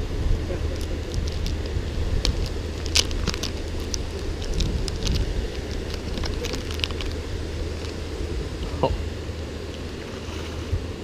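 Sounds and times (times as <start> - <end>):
water washing: 0.0 - 11.0
wind rumbling on microphone: 0.0 - 11.0.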